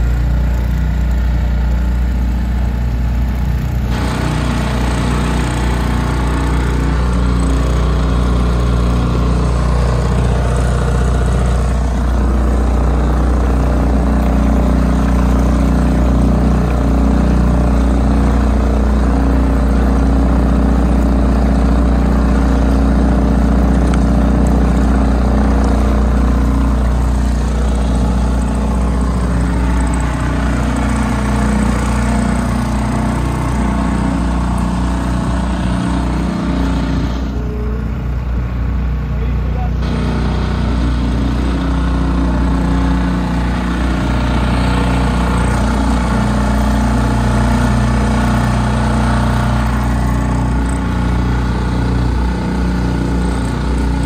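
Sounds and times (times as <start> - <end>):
motorboat engine running: 0.0 - 54.0
water rushing along hull: 0.0 - 54.0.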